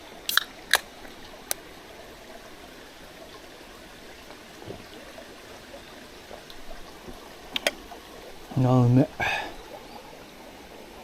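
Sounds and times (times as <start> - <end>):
stream rushing: 0.0 - 11.0.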